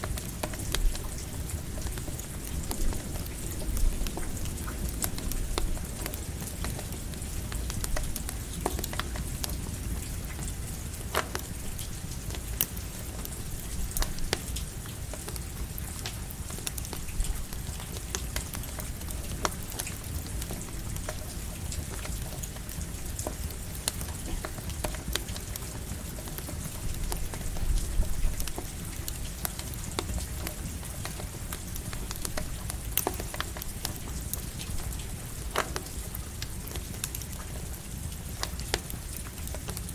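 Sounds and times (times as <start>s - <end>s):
campfire crackling and popping: 0.0s - 39.9s
light rain hiss: 0.0s - 39.9s.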